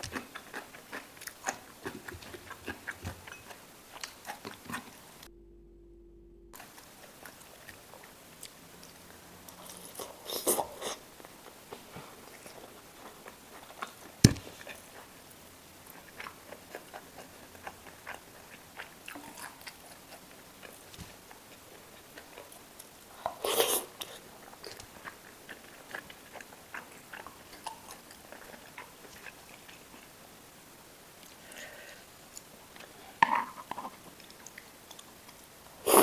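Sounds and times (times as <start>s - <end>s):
person chewing food: 0.0s - 5.3s, 6.6s - 30.1s, 31.2s - 36.0s.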